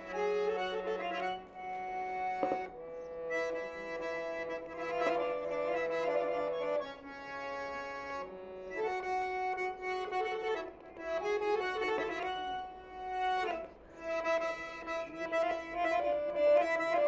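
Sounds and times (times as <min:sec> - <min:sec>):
slow sustained instrumental chords: 0:00.0 - 0:17.0.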